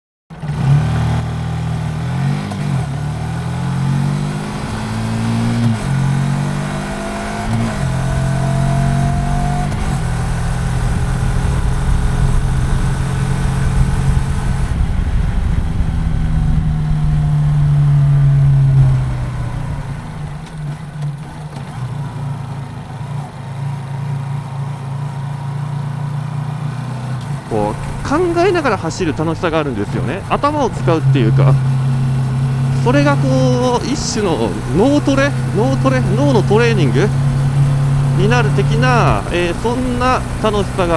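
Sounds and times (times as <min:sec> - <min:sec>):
motorcycle engine revving: 0:00.3 - 0:23.1, 0:23.9 - 0:40.9.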